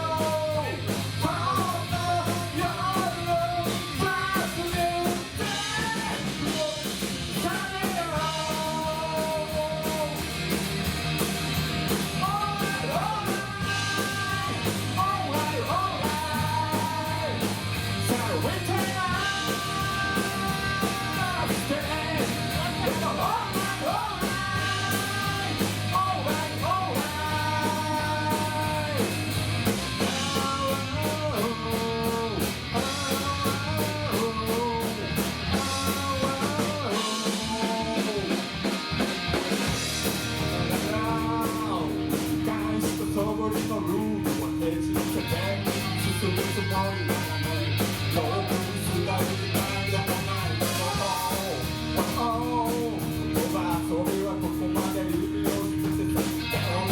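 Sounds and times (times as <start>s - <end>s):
voice singing: 0.0s - 10.5s, 11.9s - 38.8s, 39.7s - 56.9s
bass: 0.0s - 56.9s
electric guitar: 0.0s - 56.9s
steady drum beat: 0.0s - 56.9s.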